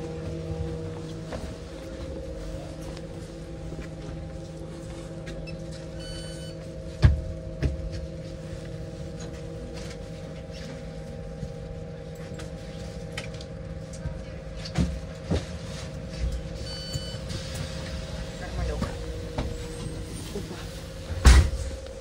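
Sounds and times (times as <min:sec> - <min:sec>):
trolleybus electric hum: 0:00.0 - 0:22.0.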